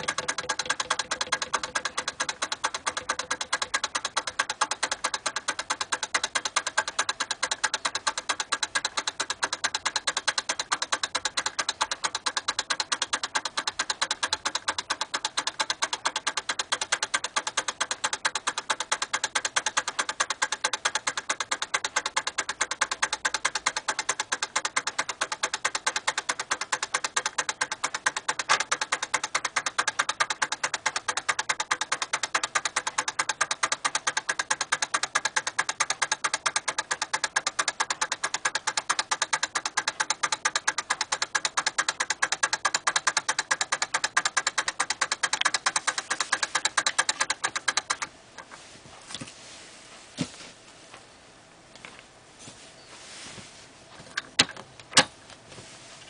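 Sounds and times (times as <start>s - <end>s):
clockwork turntable ticking: 0.0s - 48.5s.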